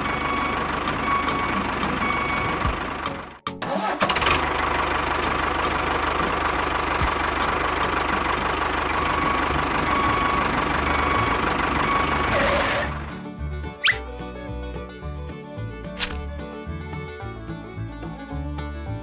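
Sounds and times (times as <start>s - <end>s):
engine running with whine: 0.0s - 19.0s.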